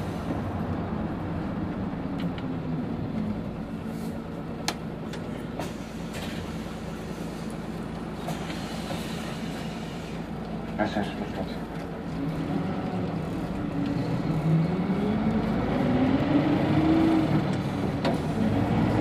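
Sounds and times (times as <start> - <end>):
bus drivetrain hum: 0.0 - 19.0.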